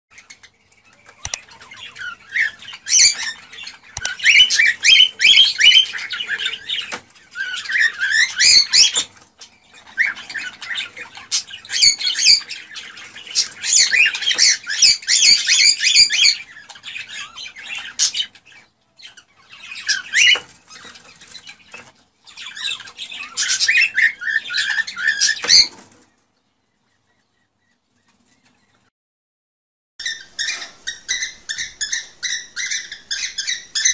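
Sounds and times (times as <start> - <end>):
cockatiels chirping and squawking: 0.2 - 26.2, 30.0 - 33.9.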